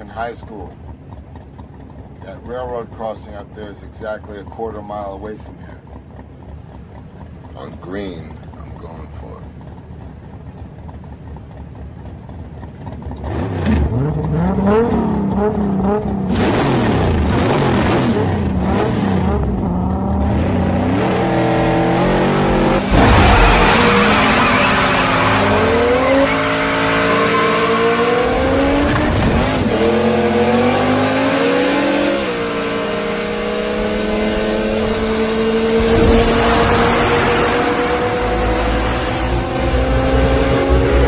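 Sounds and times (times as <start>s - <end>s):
car engines racing through gears: 0.0s - 41.0s.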